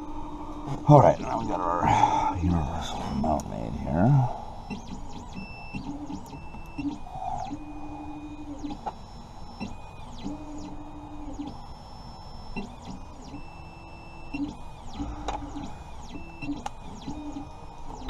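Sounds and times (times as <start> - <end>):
electronic device beeping: 0.0 - 18.0.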